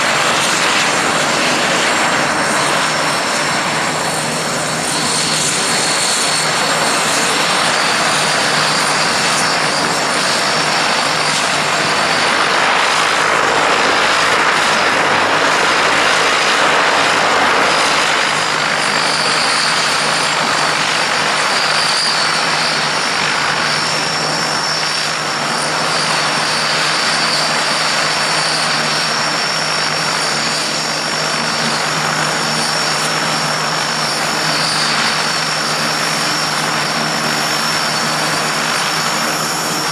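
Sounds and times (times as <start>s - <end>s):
high turbine whine: 0.0s - 39.9s
turboprop engines droning: 0.0s - 39.9s.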